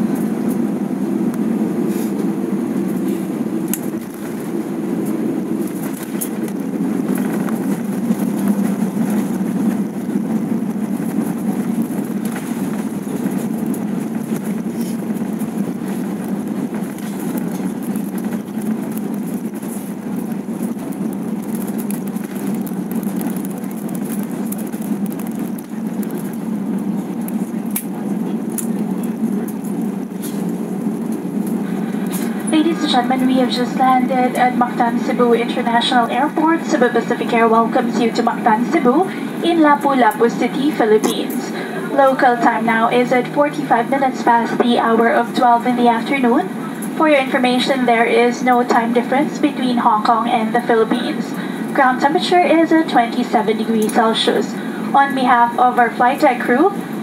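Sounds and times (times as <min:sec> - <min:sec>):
aircraft cabin low rumble: 0:00.0 - 0:57.0.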